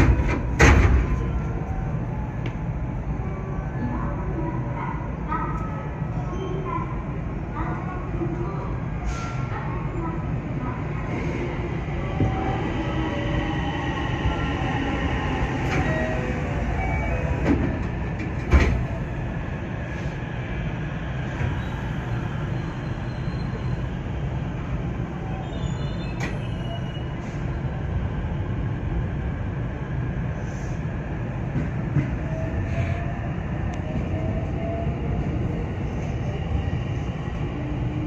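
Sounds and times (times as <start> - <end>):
train wheels rumbling on rail: 0.0 - 2.9, 3.8 - 38.0.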